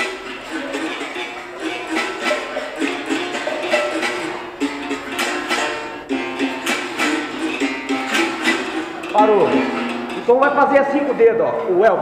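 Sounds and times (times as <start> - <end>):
berimbaus playing: 0.0 - 12.0.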